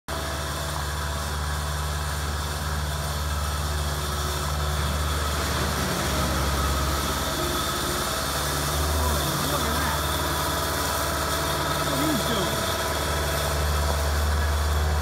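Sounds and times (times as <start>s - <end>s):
loader engine running: 0.1s - 15.0s.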